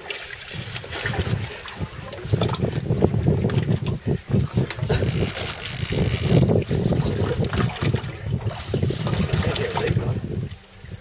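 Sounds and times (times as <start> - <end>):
water sloshing against hull: 0.0 - 11.0
wind buffeting microphone: 0.4 - 11.0.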